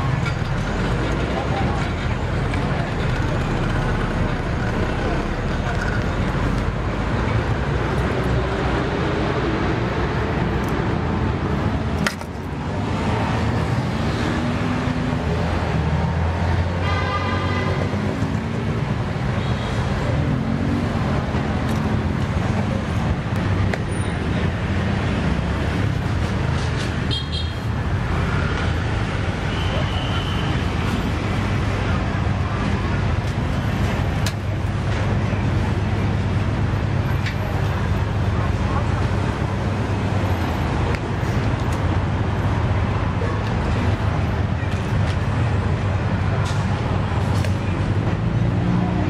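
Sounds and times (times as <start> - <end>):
traffic noise: 0.0 - 49.0.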